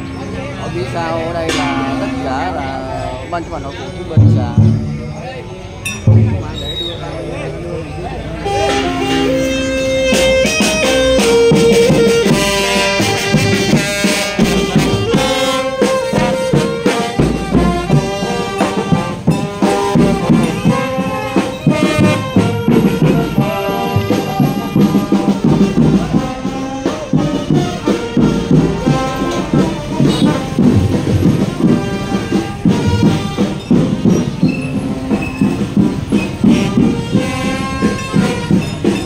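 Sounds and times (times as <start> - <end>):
trombones and trumpets: 0.0 - 39.0
bass drum beat: 4.1 - 5.2, 5.9 - 7.0, 8.4 - 39.0.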